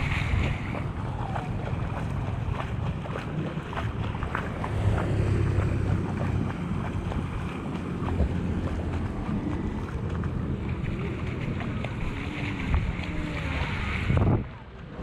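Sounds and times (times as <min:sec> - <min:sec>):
wading through shallow water: 0:00.0 - 0:15.0
wind rumbling on microphone: 0:00.0 - 0:15.0.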